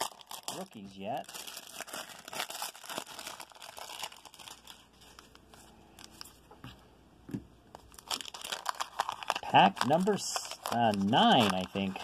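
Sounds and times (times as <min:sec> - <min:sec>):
plastic wrapper crinkling: 0:00.0 - 0:06.5, 0:07.7 - 0:12.0.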